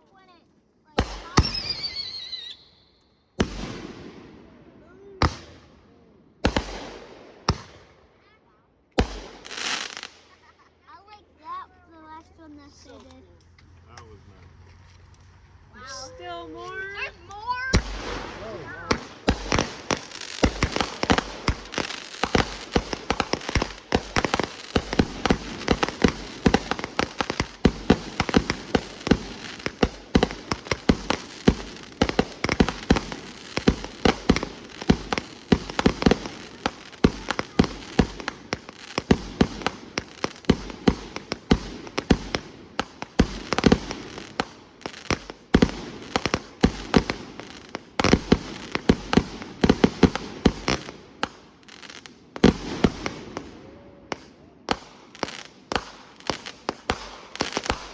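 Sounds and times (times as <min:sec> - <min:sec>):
fireworks popping and crackling: 0:00.1 - 0:02.8, 0:03.4 - 0:04.4, 0:05.1 - 0:05.7, 0:06.4 - 0:08.0, 0:08.9 - 0:11.2, 0:16.7 - 0:57.9
fireworks bangs: 0:00.2 - 0:11.2, 0:15.8 - 0:57.9.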